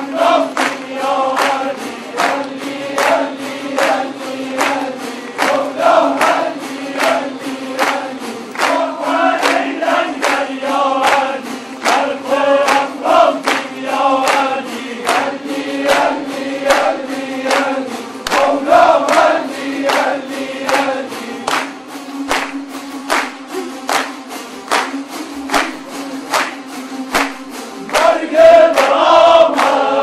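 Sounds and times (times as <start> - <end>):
crowd clapping on a beat: 0.0 - 30.0
crowd singing in unison: 0.0 - 30.0.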